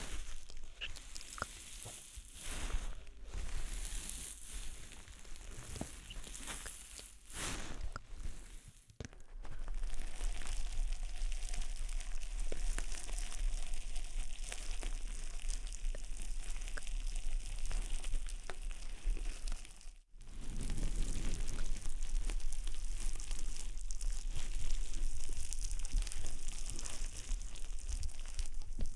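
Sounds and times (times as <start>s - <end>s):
close-up crackling and crinkling: 0.0s - 28.9s.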